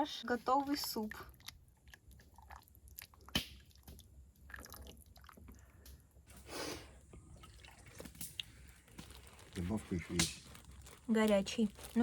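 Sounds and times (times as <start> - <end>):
person eating soup: 1.1 - 10.8.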